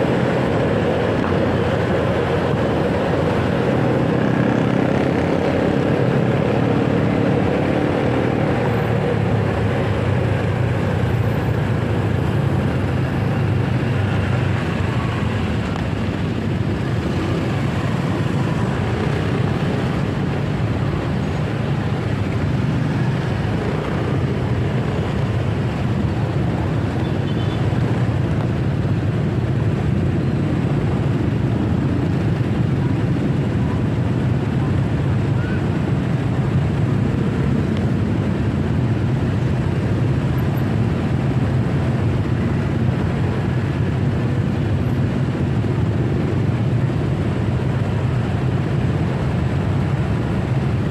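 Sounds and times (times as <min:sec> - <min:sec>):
road traffic noise: 0:00.0 - 0:50.9.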